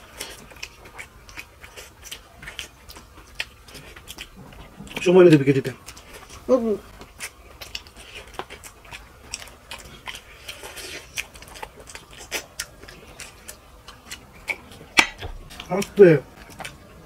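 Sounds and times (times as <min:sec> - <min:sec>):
chewing and wet mouth smacks: 0:00.0 - 0:17.0.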